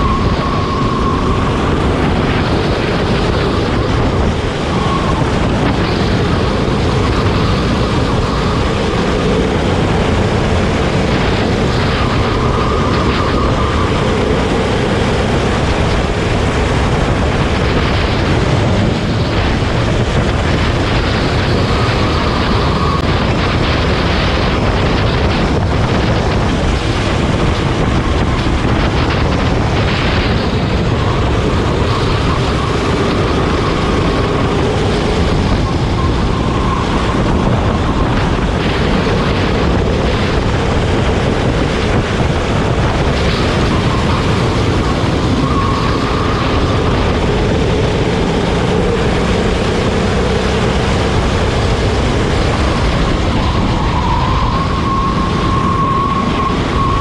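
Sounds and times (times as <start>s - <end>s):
go-kart engine racing: 0.0s - 57.0s
loud steady rush of noise: 0.0s - 57.0s.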